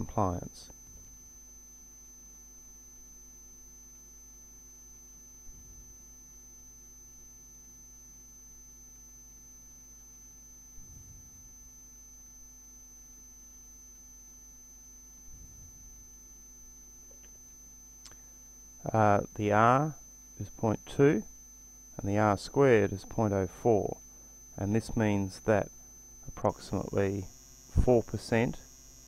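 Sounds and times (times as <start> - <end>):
faint electrical hum: 0.0 - 29.0
thin high-pitched whine: 0.0 - 29.0.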